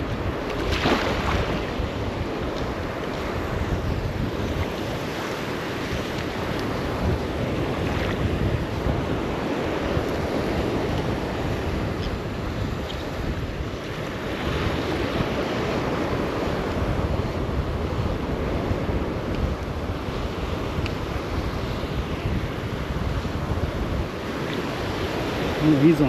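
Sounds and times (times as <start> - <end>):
surf washing: 0.0 - 26.0
wind buffeting microphone: 0.0 - 26.0.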